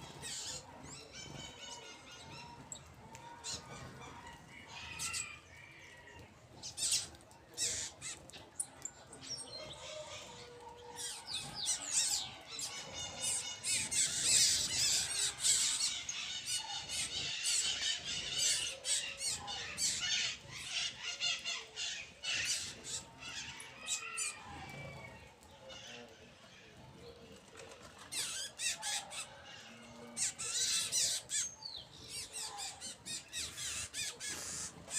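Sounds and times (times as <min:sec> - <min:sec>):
flock of birds chirping: 0:00.0 - 0:34.9.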